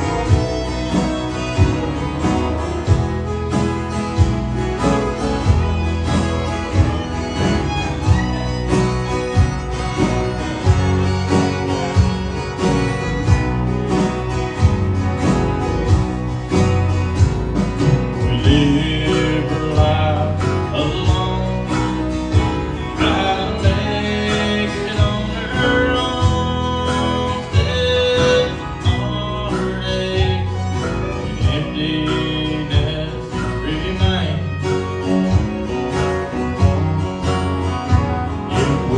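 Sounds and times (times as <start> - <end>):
country music with guitar: 0.0 - 38.9.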